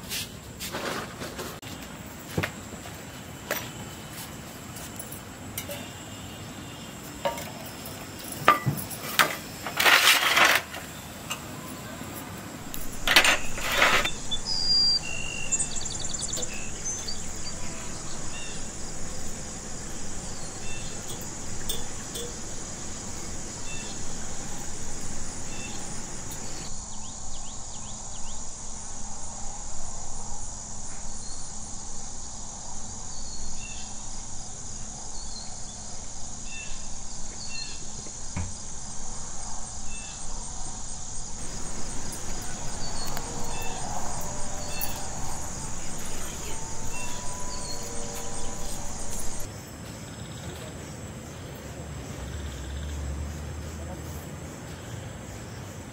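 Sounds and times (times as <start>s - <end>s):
crickets trilling: 1.6s - 55.9s
short cricket chirps: 3.2s - 55.9s.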